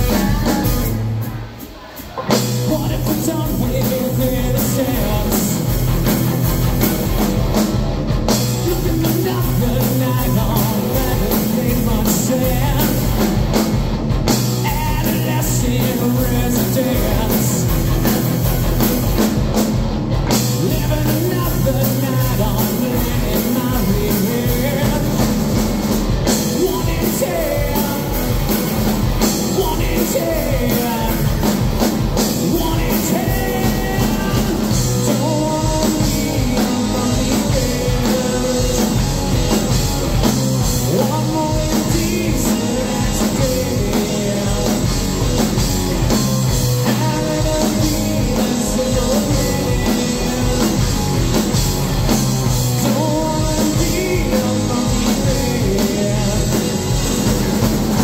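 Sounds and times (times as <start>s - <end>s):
man singing: 0.0s - 6.0s, 8.3s - 13.3s, 14.4s - 18.2s, 20.3s - 51.5s, 52.6s - 57.6s
bass guitar: 0.0s - 58.0s
drum kit: 0.0s - 58.0s
electric guitar: 0.0s - 58.0s.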